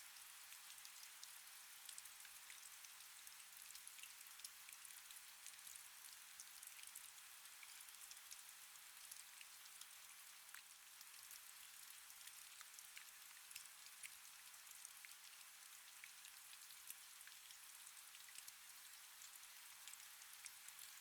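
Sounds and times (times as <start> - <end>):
faint steady rain: 0.0 - 21.0.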